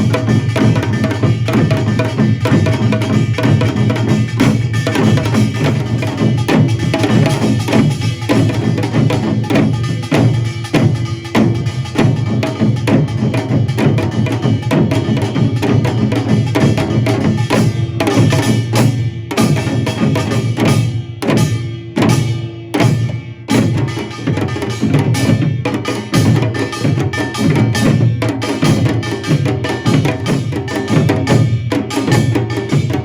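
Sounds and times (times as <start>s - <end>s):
barrel drum: 0.0s - 33.0s
hourglass drums: 0.0s - 33.0s.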